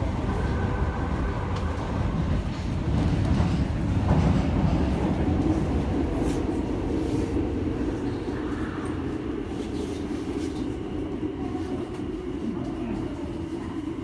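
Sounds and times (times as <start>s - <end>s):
subway train rumbling in tunnel: 0.0s - 14.0s.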